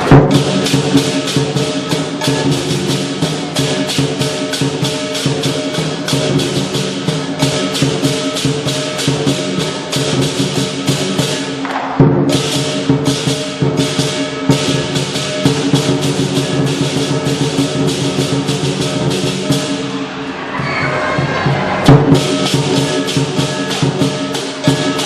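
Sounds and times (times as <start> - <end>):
ringing gong: 0.0 - 11.6, 12.2 - 20.2, 21.9 - 25.0
big drum beating: 0.0 - 25.0
cymbals clashing: 0.0 - 25.0.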